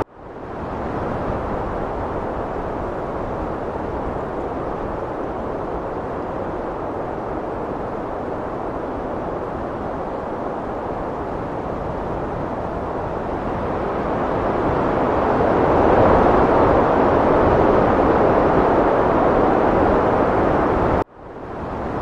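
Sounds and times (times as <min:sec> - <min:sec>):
heavy wind blowing: 0:00.0 - 0:22.0.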